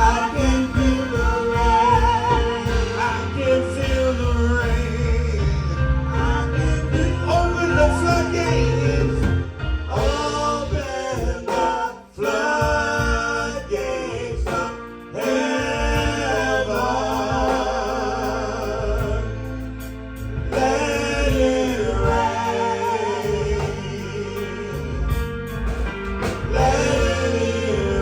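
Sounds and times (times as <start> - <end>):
band with steady bass line: 0.0 - 28.0
voices singing with vibrato: 0.0 - 28.0.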